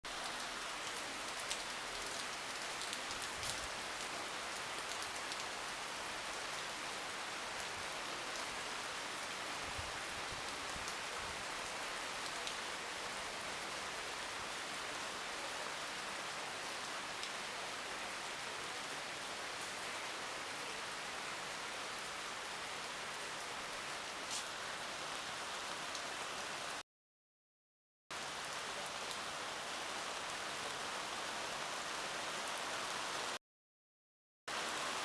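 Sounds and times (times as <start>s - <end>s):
steady rain hiss: 0.1s - 26.8s, 28.1s - 33.4s, 34.5s - 35.0s.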